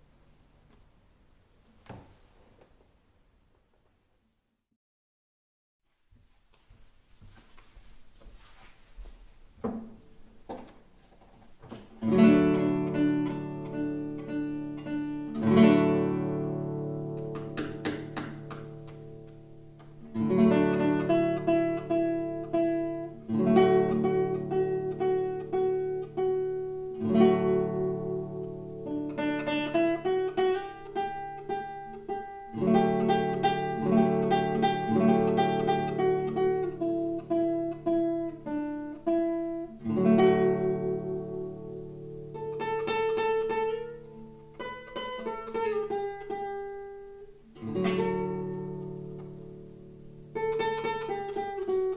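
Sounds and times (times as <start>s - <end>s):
solo classical guitar: 7.2s - 51.9s.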